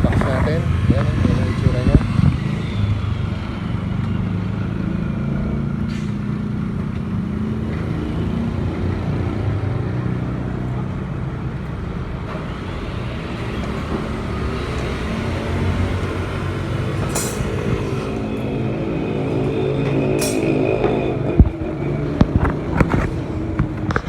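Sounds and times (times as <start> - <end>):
vehicle engine running: 0.0 - 12.5, 13.8 - 24.0
road traffic: 0.0 - 24.0.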